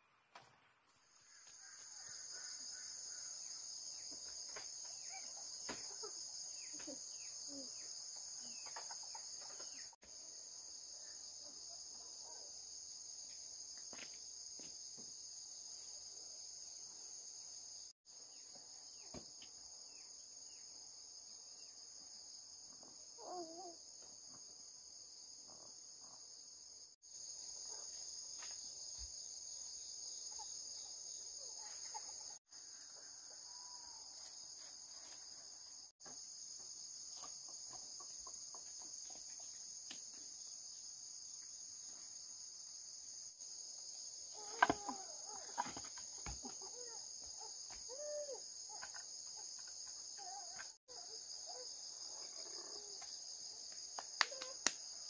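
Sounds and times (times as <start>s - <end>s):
insect chorus droning: 0.0s - 55.0s.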